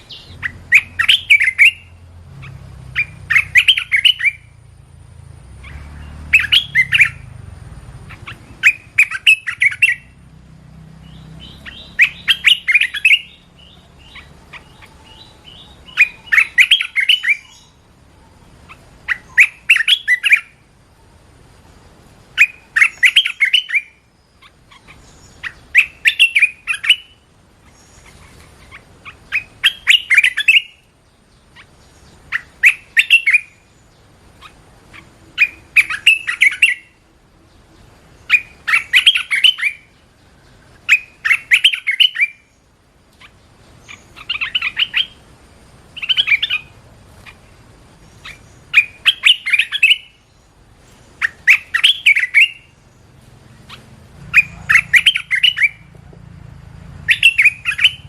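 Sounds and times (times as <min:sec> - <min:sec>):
bird singing quick phrases: 0:00.0 - 0:04.7, 0:05.3 - 0:17.9, 0:18.5 - 0:20.6, 0:22.3 - 0:55.9, 0:57.0 - 0:58.0.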